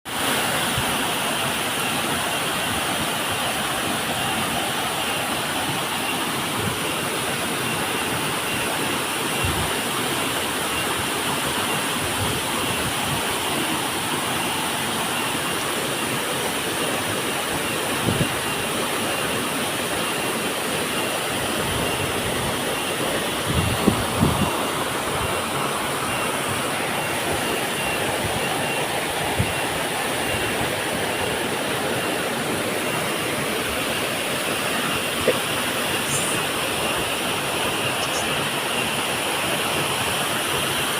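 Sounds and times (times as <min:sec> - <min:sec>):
waterfall roaring: 0:00.1 - 0:40.9.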